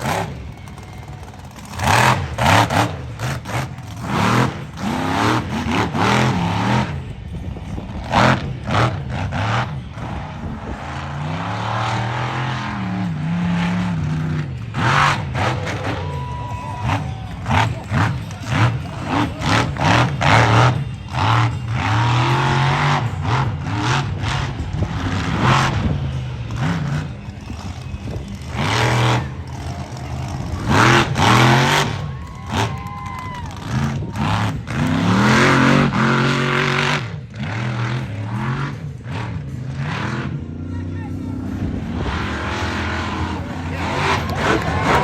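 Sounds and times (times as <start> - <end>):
racing engine revving hard: 0.0 - 40.6, 41.4 - 45.0.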